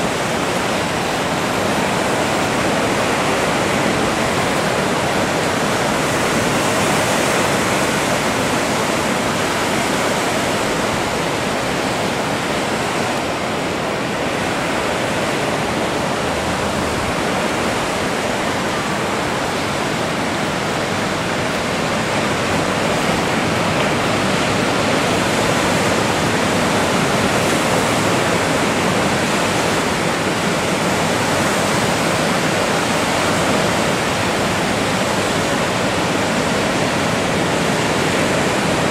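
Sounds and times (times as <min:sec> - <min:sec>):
ocean surf breaking: 0:00.0 - 0:38.9.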